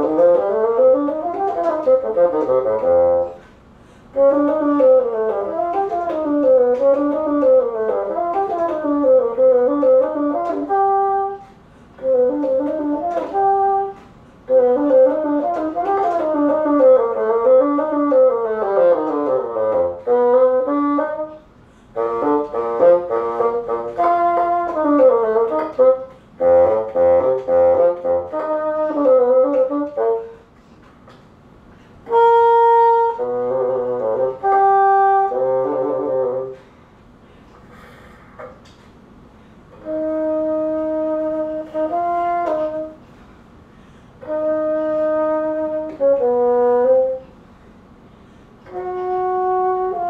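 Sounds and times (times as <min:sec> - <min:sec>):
solo bassoon melody: 0:00.0 - 0:03.5, 0:04.1 - 0:30.5, 0:32.0 - 0:36.7, 0:39.8 - 0:43.3, 0:44.2 - 0:47.4, 0:48.6 - 0:50.0.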